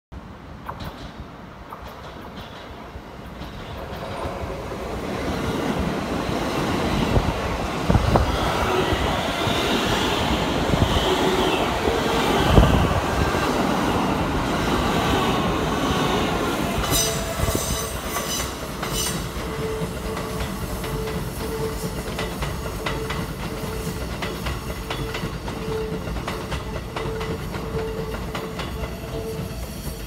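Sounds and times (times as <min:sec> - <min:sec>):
train wheels rumbling on rail: 0:00.2 - 0:30.0.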